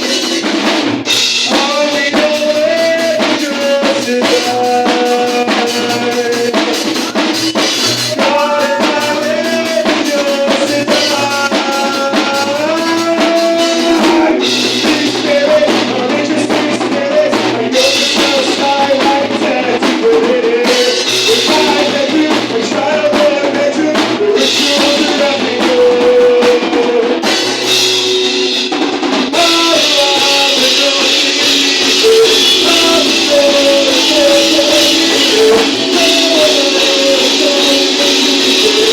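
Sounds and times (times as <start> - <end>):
bass guitar: 0.0 - 38.9
drum kit beat: 0.0 - 38.9
guitar: 0.0 - 38.9
person singing lead vocals: 0.0 - 38.9.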